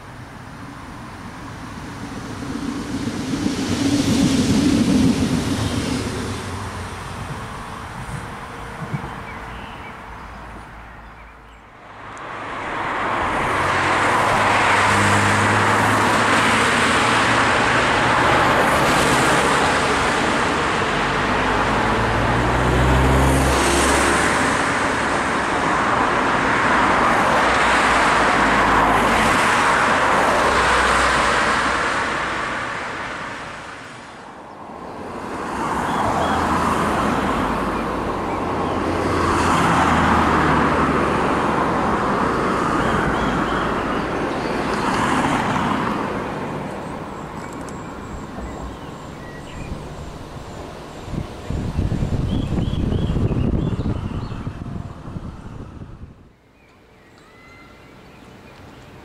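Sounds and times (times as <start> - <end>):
cars passing by: 0.0 - 59.0.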